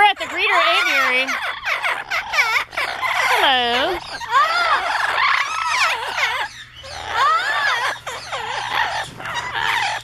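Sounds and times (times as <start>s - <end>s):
parrots squawking: 0.0s - 10.0s.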